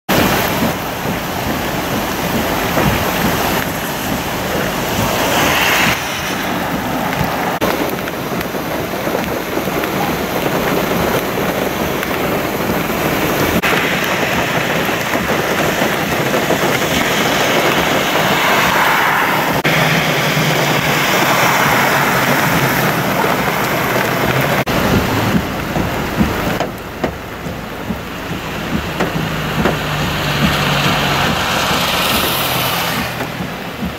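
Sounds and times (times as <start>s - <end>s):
car tyres splashing through water: 0.1s - 33.9s
heavy rain on pavement: 0.1s - 33.9s
runoff rushing into drain: 0.1s - 33.9s.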